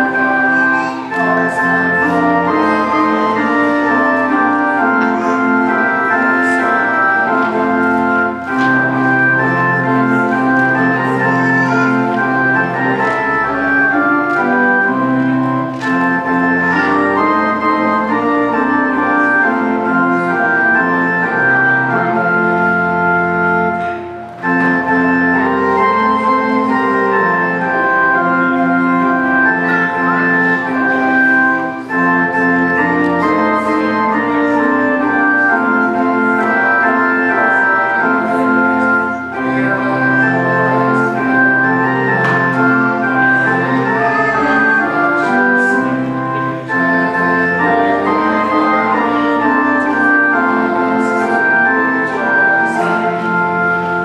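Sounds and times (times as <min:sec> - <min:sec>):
organ playing held chords: 0:00.0 - 0:54.0.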